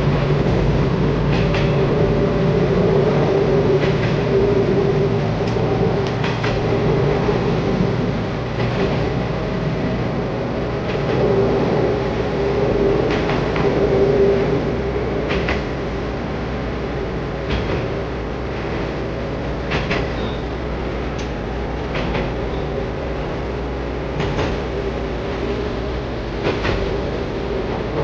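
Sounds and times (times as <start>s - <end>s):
diesel railcar drone: 0.0s - 28.0s
wheels clicking on track: 0.0s - 28.0s.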